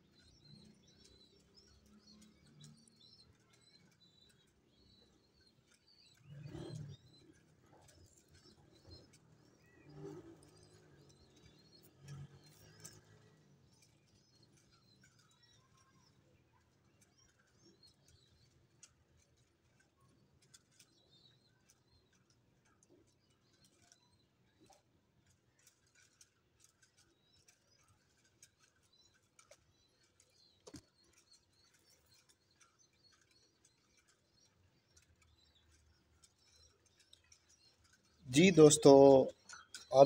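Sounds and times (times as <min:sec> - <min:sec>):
faint bird chirps: 0:00.0 - 0:40.0
small ticks: 0:00.0 - 0:40.0.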